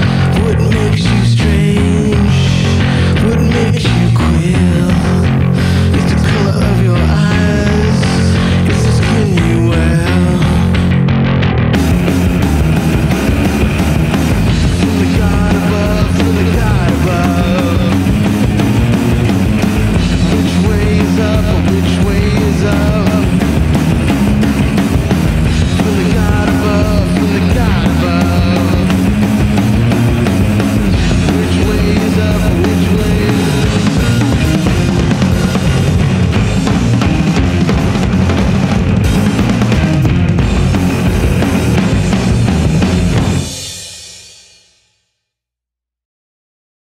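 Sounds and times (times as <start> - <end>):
bending high guitar line: 0.0 - 43.6
bass guitar: 0.0 - 44.2
distorted electric guitars: 0.0 - 44.5
rock band playing: 0.0 - 44.5
drums: 0.0 - 45.1.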